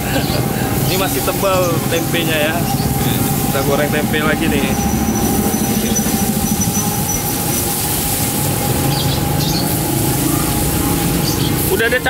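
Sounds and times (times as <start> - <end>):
frying in hot oil sizzling: 0.0 - 4.6, 5.4 - 12.0
thin steady tone: 0.0 - 12.0.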